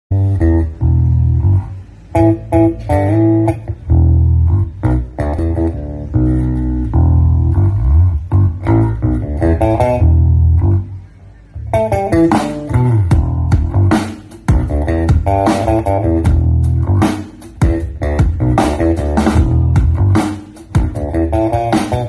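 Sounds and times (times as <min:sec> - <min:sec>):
bass guitar notes: 0:00.1 - 0:22.0
guitar phrases: 0:00.1 - 0:22.0.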